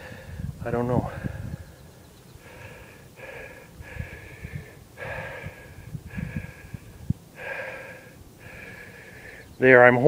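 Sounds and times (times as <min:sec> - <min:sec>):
man breathing hard: 0:00.0 - 0:09.5.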